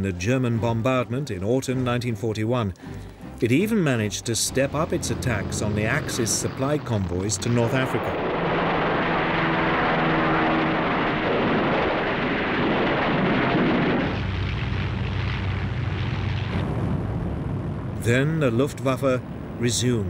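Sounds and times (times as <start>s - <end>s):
aircraft engines droning: 2.8s - 20.0s.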